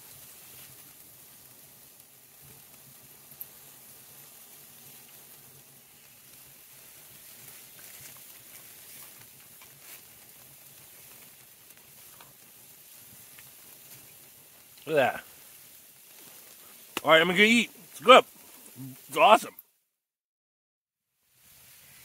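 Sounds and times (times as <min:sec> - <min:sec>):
meat frying sizzle: 0:00.0 - 0:19.6, 0:21.1 - 0:22.0.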